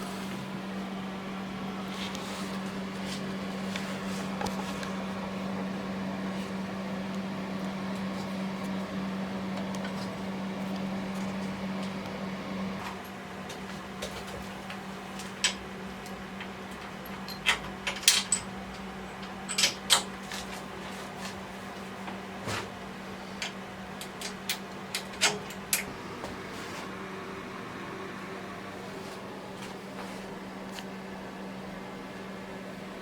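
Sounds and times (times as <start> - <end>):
low machine hum: 0.0 - 33.0
noisy running sound: 0.0 - 33.0.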